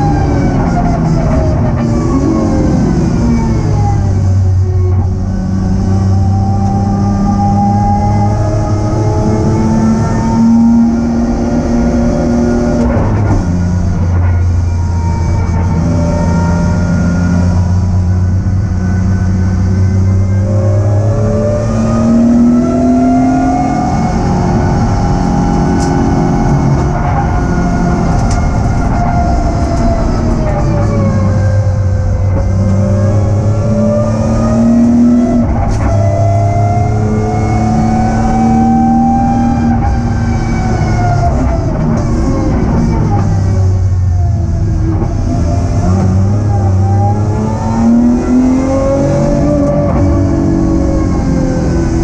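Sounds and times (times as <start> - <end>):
car engine revving from inside cabin: 0.5 - 52.0.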